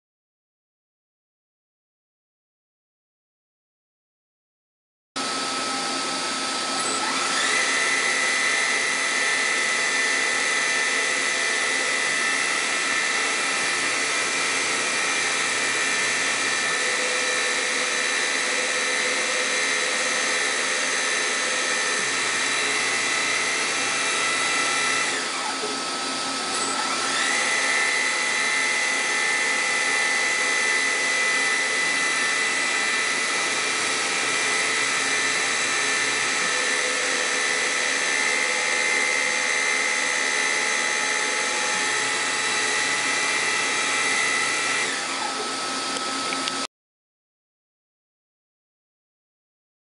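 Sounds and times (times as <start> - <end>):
milling machine spindle whine: 5.2 - 46.7.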